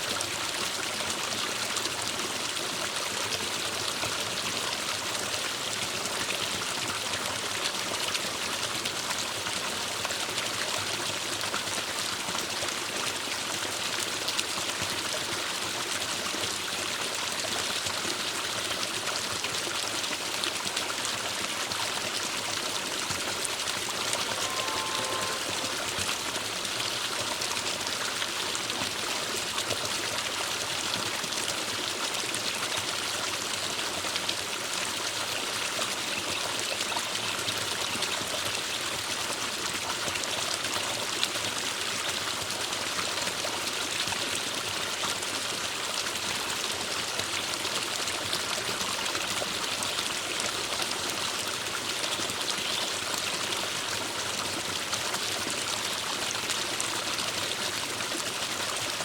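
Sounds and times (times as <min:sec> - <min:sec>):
forest stream running: 0:00.0 - 0:59.0.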